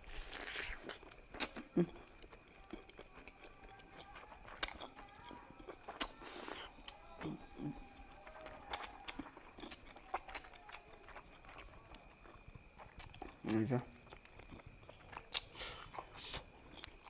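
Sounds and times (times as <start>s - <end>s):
chewing mouth smacks: 0.2s - 17.0s.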